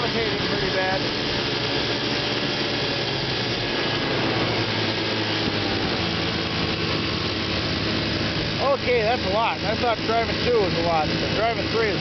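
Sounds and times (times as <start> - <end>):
outboard motors droning: 0.0 - 12.0
propeller cavitating: 0.0 - 12.0.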